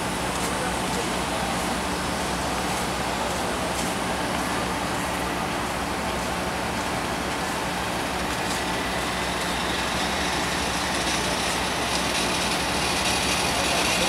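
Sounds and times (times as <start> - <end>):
jet engine hiss and hum: 0.0 - 14.0.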